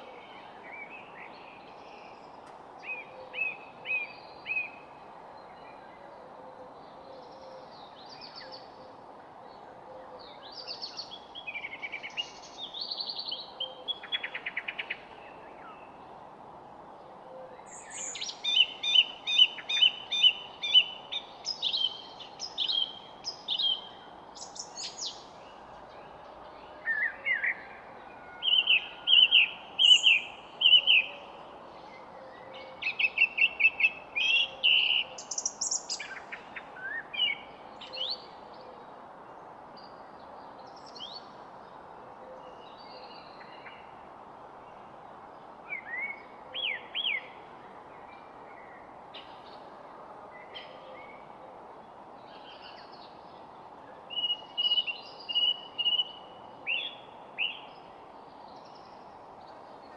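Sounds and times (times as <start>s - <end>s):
songbirds chirping and trilling: 0.0s - 59.9s
steady background hiss: 0.0s - 59.9s.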